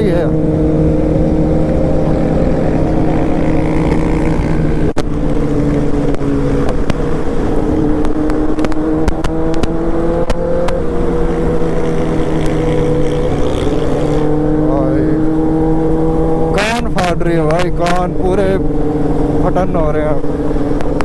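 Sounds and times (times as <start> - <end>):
superbike engines running: 0.0 - 21.0.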